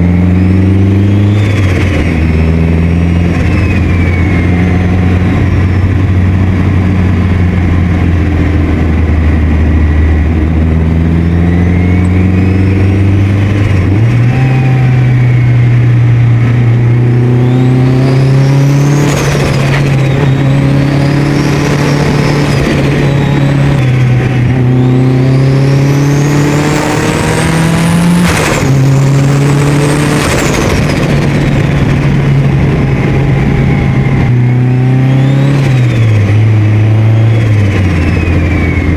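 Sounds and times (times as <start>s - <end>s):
car engine accelerating: 0.0s - 38.9s
high turbo whine: 0.0s - 38.9s.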